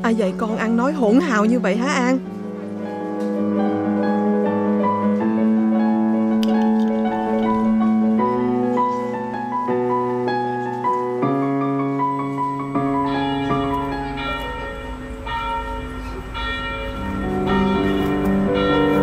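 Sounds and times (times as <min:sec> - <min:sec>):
slow piano film score: 0:00.0 - 0:19.0.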